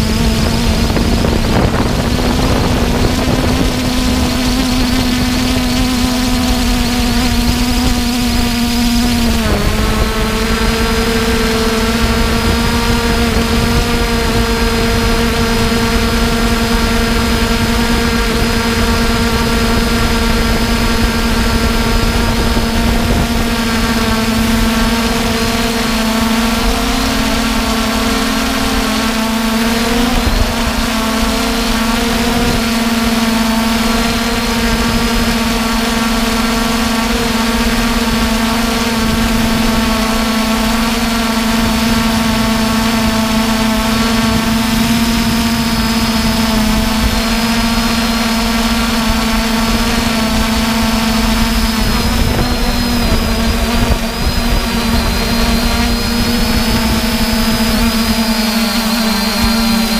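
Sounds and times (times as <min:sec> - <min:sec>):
drone propellers humming: 0:00.0 - 0:59.9.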